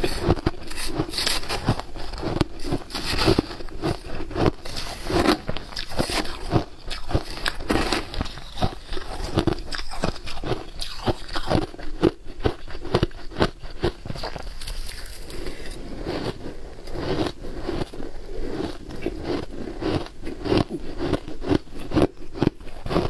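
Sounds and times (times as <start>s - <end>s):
chewing crunchy shaved ice: 0.0s - 23.0s.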